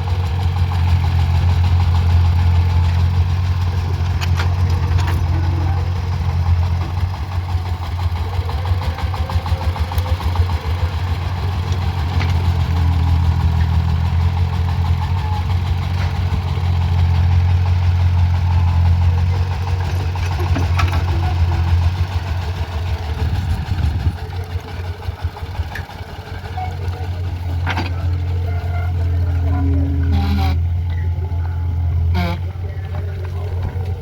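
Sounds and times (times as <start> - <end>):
diesel digger engine running: 0.0 - 34.0.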